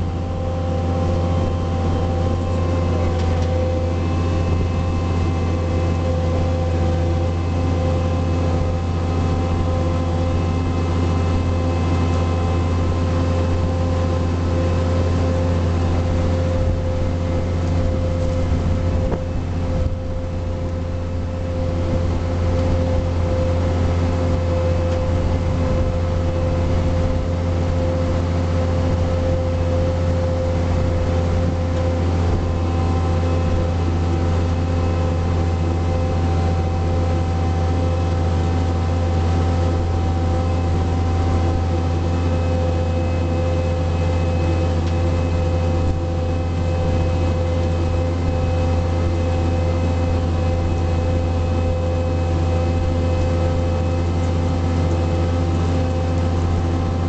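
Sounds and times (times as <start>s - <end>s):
diesel sprayer engine droning: 0.0s - 57.0s.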